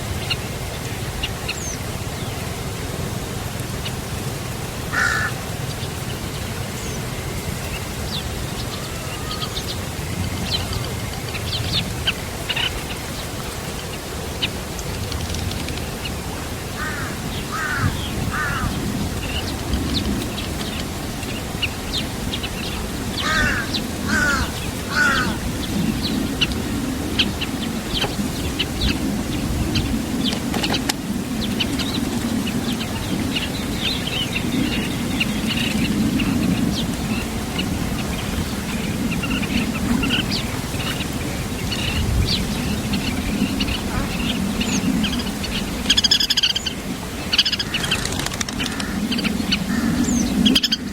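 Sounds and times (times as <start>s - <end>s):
small birds chirping: 4.9s - 50.9s.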